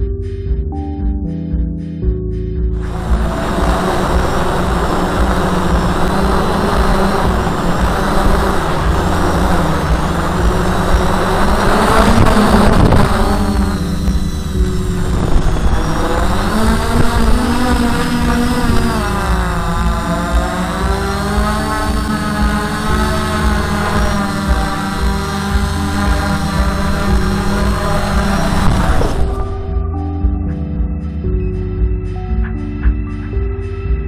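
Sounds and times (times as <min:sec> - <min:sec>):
drone motors whining: 0:02.4 - 0:30.6
wind noise: 0:02.8 - 0:30.2.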